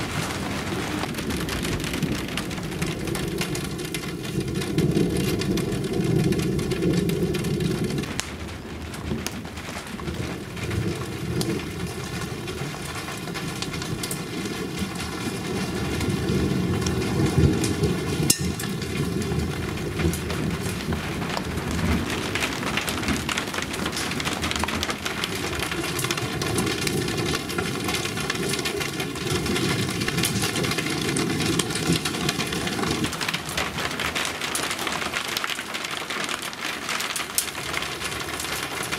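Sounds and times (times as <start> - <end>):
low thunder rumble: 0.0 - 34.4
raindrops ticking close by: 0.0 - 38.9
steady rain: 0.0 - 38.9.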